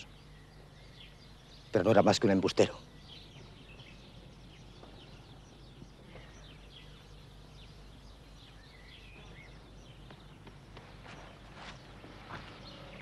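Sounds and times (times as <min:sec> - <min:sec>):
faint birdsong chirps: 0:00.0 - 0:13.0
steady low hum: 0:00.0 - 0:13.0.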